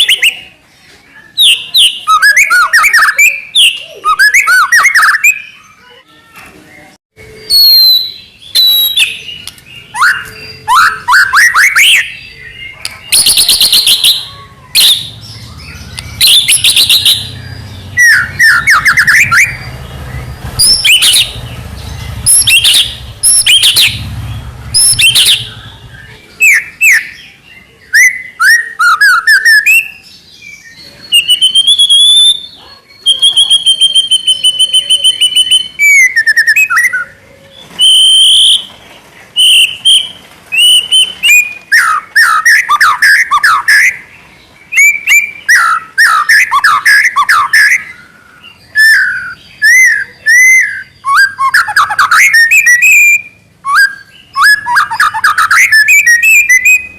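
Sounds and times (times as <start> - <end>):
bird singing whistles and warbles: 0.0 - 6.0, 6.7 - 56.9.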